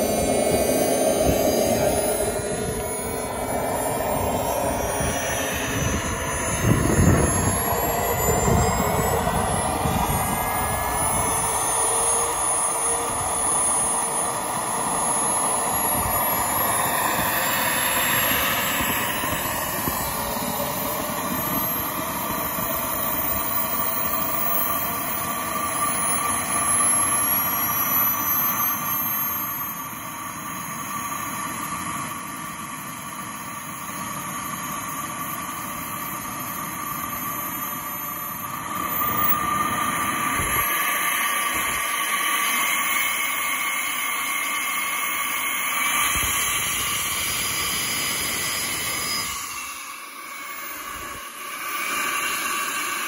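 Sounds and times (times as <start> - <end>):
model jet turbine whine: 0.0 - 53.0.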